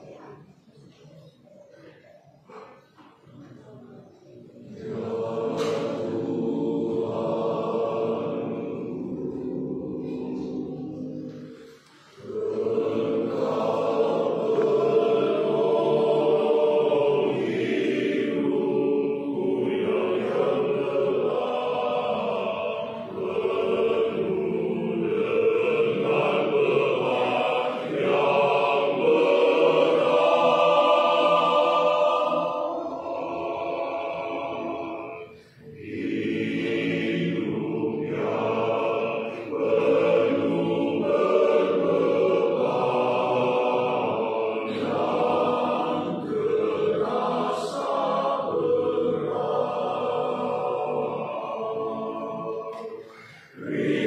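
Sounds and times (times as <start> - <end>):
men's choir singing a hymn: 4.6 - 54.0.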